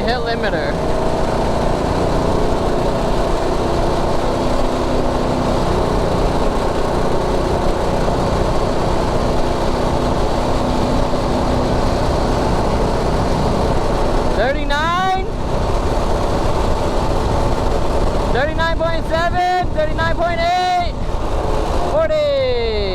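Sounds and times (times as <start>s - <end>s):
engine running at rev limiter: 0.0s - 22.9s
wind rushing over microphone: 0.0s - 22.9s.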